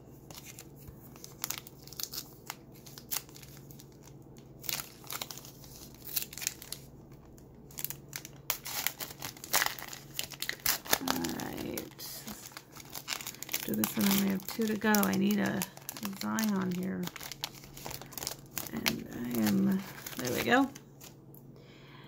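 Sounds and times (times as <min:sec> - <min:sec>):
plastic wrapper crinkling and tearing: 0:00.1 - 0:21.3.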